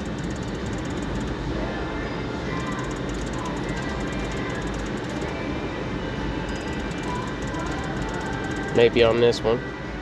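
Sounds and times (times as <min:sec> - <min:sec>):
hum of machines and people: 0:00.0 - 0:10.0.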